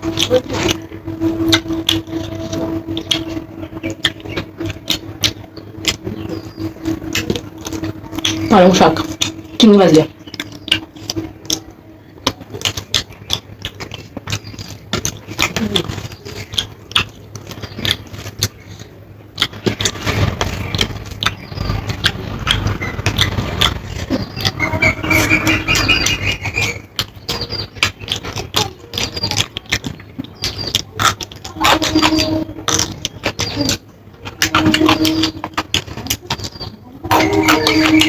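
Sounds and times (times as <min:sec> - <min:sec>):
chewing: 0:00.0 - 0:38.0.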